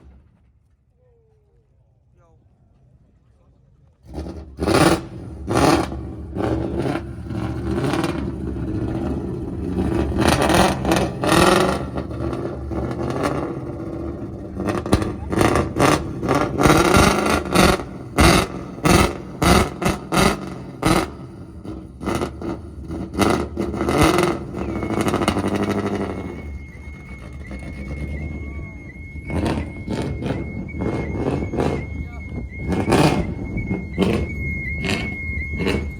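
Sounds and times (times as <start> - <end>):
car engine revving: 3.9 - 35.9
car alarm tone with chirps: 5.5 - 35.9.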